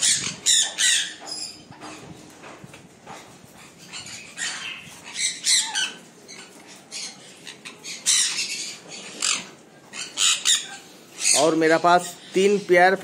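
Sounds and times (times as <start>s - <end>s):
parrots squawking: 0.0s - 2.1s, 3.5s - 13.0s.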